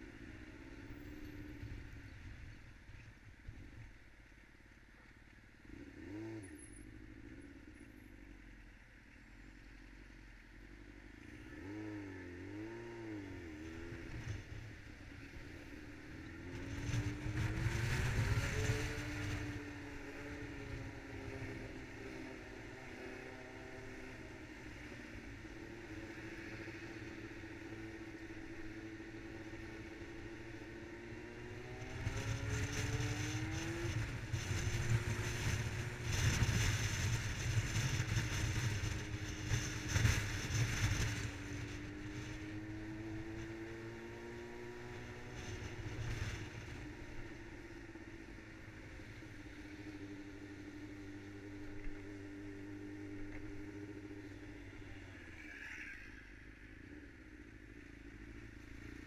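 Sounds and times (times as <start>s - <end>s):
loud wind and road noise: 0.0s - 4.8s, 10.7s - 59.0s
motorcycle engine running: 0.0s - 55.2s.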